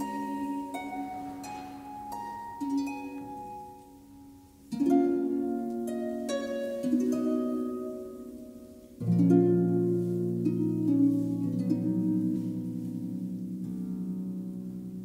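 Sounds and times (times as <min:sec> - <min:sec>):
harp plucked notes and chords: 0:00.0 - 0:15.0.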